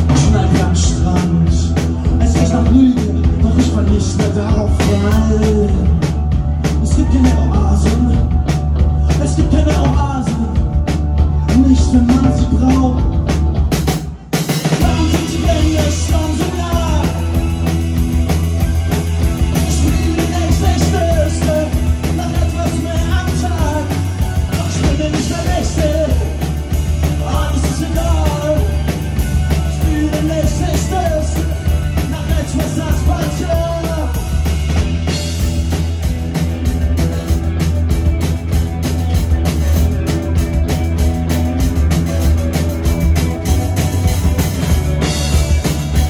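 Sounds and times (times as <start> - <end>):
drum kit: 0.0 - 46.0
electric bass: 0.0 - 46.0
electric guitar: 0.0 - 46.0.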